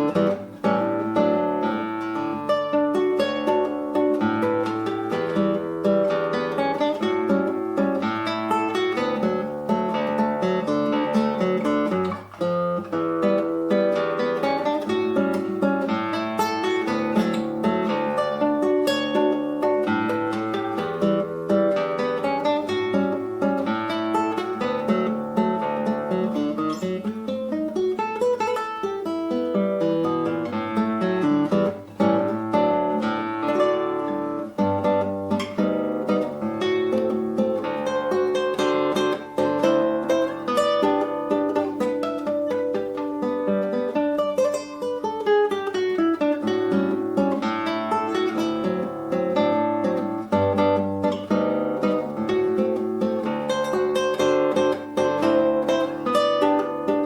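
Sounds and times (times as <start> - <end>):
classical guitar fingerpicking: 0.0 - 57.0.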